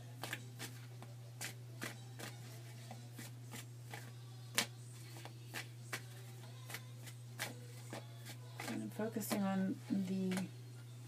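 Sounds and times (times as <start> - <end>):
steady low hum: 0.0 - 11.0
cards being shuffled: 0.2 - 9.4.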